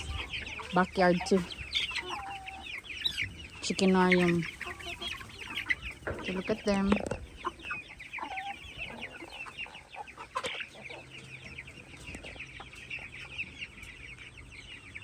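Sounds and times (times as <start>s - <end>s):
chickens clucking and calling: 0.0s - 15.0s.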